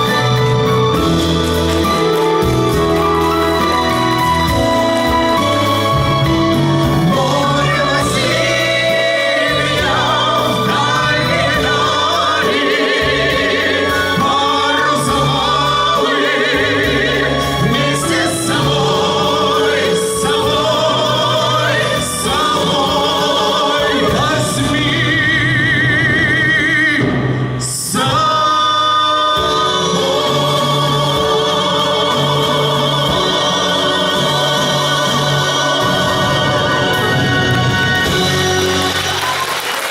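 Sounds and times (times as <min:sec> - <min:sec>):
instrumental accompaniment: 0:00.0 - 0:39.9
voices singing with vibrato: 0:00.0 - 0:39.9.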